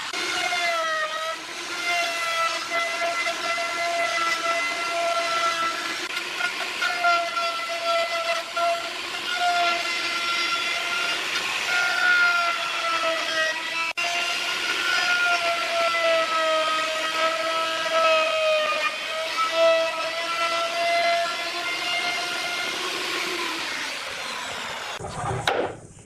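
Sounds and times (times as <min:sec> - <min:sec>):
power tool motor whining: 0:00.0 - 0:25.0.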